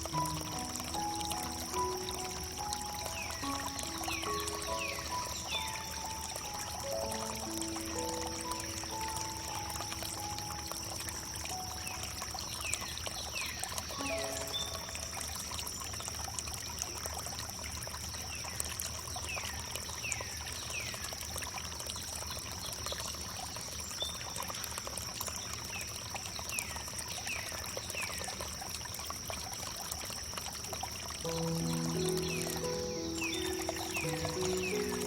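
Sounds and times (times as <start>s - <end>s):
water trickling over wood: 0.0s - 35.0s.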